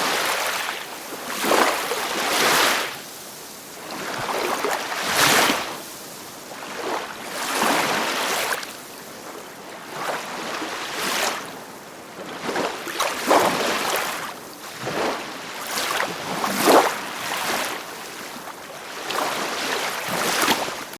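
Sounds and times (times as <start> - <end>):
small sea waves lapping: 0.0 - 20.9.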